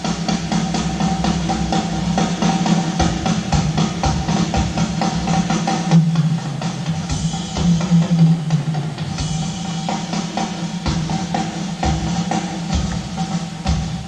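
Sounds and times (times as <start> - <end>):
drum kit driving pattern: 0.0 - 14.0.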